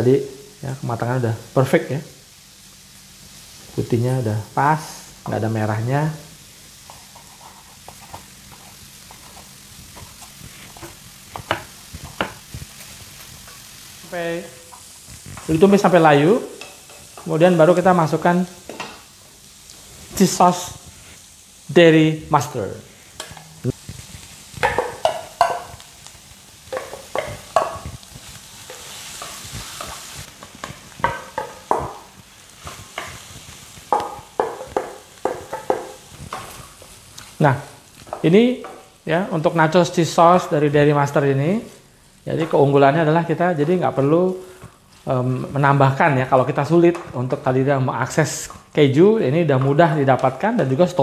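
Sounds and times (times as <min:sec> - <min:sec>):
frying pan sizzling: 0:00.0 - 0:51.0.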